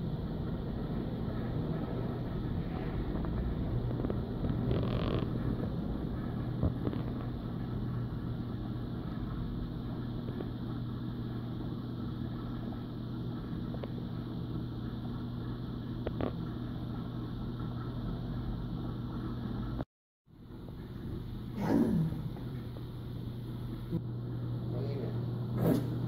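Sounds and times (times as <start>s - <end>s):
aquarium water pump humming: 0.0s - 26.0s.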